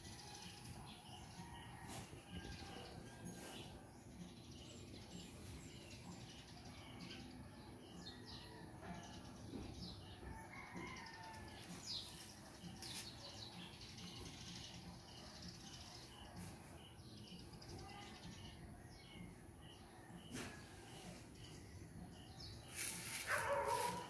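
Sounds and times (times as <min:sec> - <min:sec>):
faint birdsong chirps and whistles: 0:00.0 - 0:24.0.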